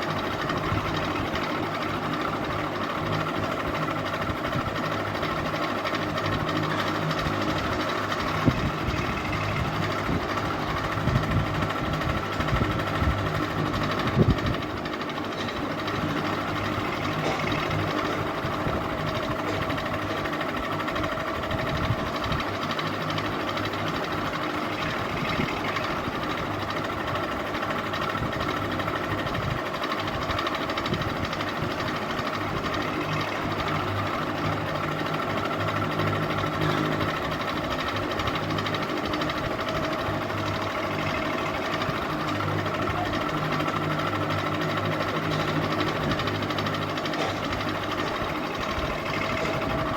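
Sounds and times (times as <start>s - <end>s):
ceiling fan running: 0.0s - 49.9s.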